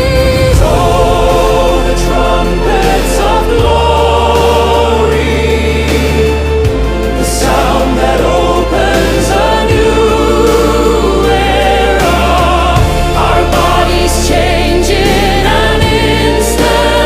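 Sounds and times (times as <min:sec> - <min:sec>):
choir singing sustained chords: 0:00.0 - 0:17.0
deep bass drone: 0:00.0 - 0:17.0.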